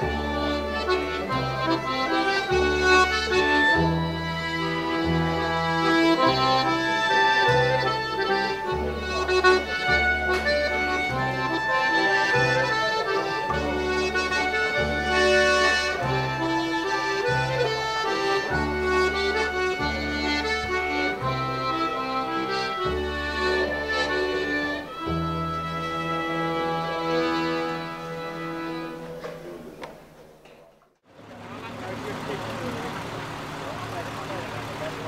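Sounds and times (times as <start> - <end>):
accordion bass beat: 0.0 - 29.4
folk dance music: 0.0 - 30.4.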